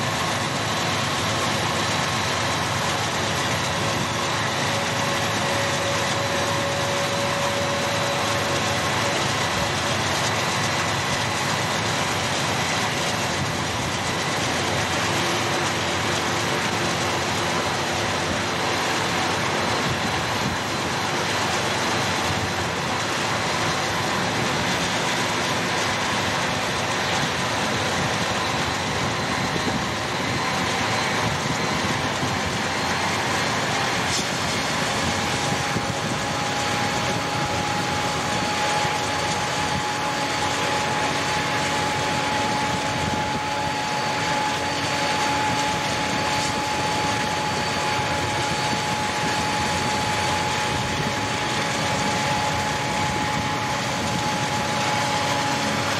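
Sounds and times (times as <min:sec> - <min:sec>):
diesel locomotives running: 0:00.0 - 0:55.9
faint steady whine: 0:00.0 - 0:55.9.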